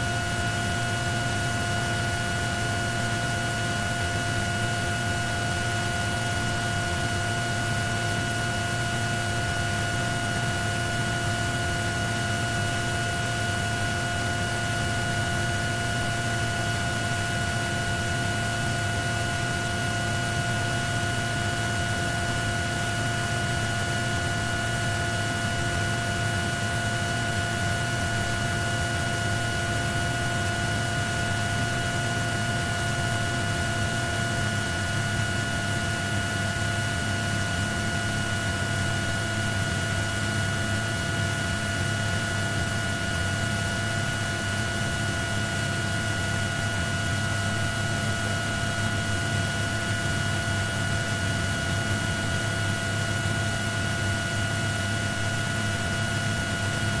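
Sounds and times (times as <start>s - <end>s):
helicopter cabin drone: 0.0s - 57.0s.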